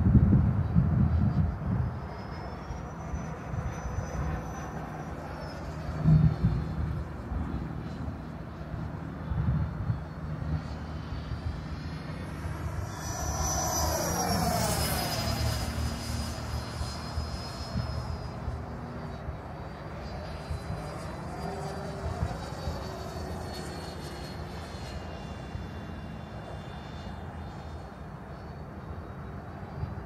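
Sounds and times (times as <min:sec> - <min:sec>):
electric ducted-fan whine: 0:00.0 - 0:30.0
low wind rumble: 0:00.0 - 0:30.0.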